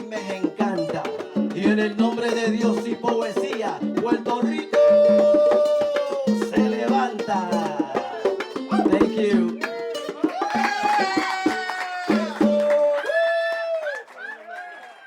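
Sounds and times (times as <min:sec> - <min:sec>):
hand-drum strikes: 0:00.0 - 0:12.7.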